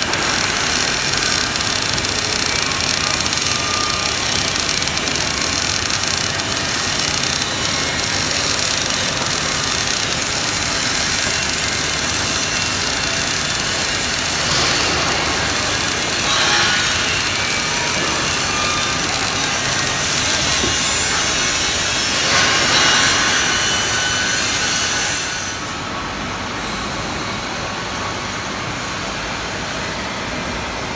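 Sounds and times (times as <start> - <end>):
welding arc crackling hiss: 0.0 - 25.4.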